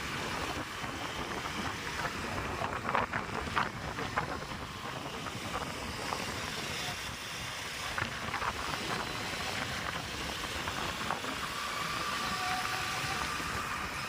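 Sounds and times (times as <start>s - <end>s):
moving road vehicle: 0.0s - 14.0s.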